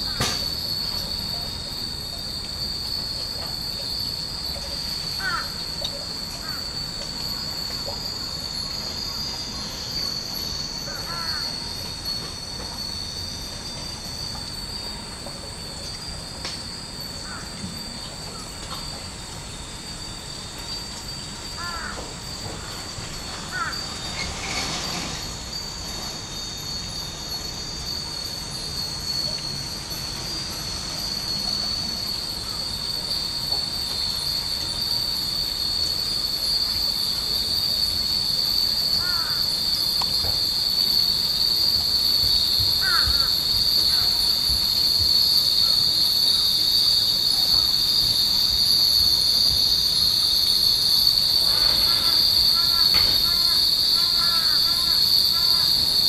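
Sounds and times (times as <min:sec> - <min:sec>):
glass wind chimes jingling: 0:00.4 - 0:56.0.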